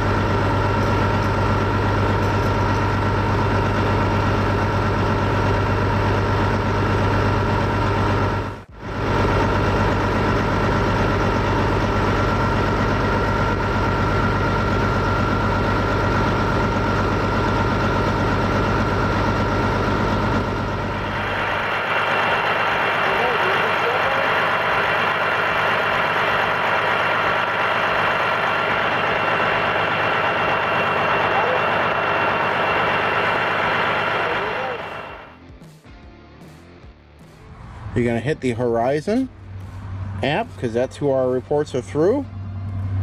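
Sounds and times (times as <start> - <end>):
diesel engine idling: 0.0 - 35.4, 37.5 - 43.0.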